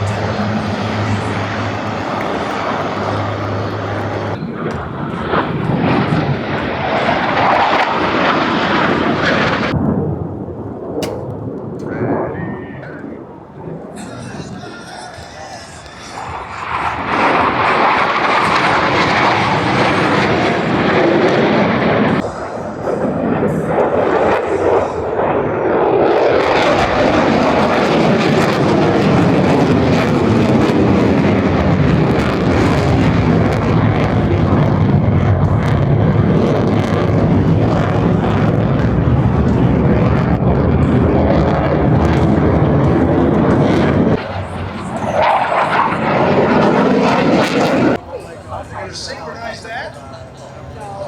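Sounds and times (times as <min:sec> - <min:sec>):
low-flying aircraft engine: 0:00.0 - 0:51.0.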